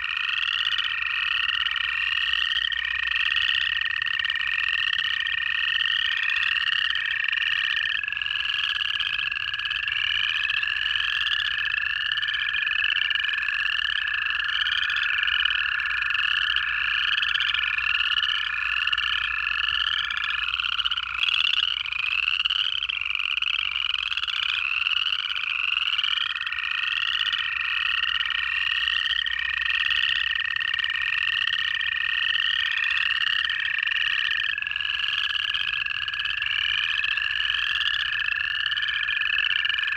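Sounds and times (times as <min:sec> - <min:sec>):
frogs trilling in chorus: 0:00.0 - 0:39.9
toads giving long trills: 0:00.0 - 0:39.9.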